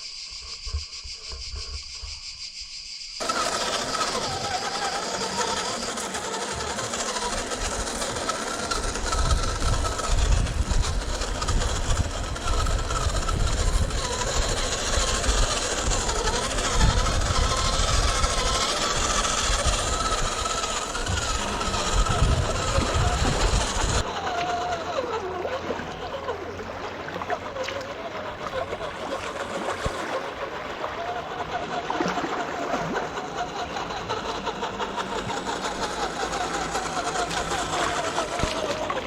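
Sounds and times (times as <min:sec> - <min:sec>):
toy car electric motor whining: 0:03.2 - 0:39.0.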